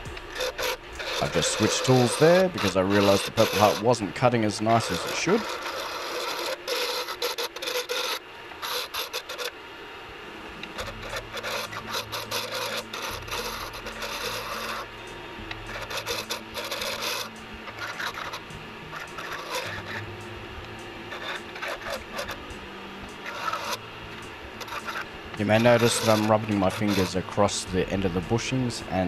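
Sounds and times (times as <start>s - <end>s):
lathe tool scraping wood: 0.0s - 29.0s
low steady hum: 0.0s - 29.0s.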